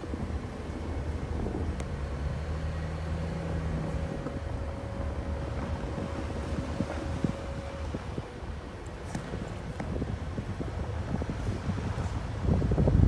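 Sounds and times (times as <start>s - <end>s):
steady hum: 0.0s - 13.0s
vehicle engine and tyres rumbling: 0.0s - 13.0s.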